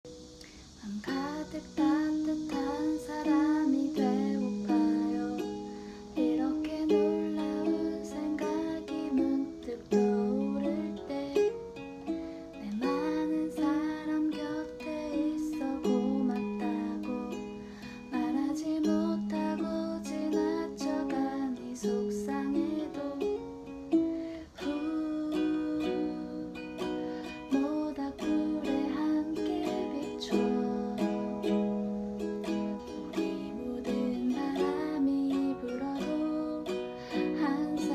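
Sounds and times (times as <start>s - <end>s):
ukulele playing: 0.1s - 37.9s.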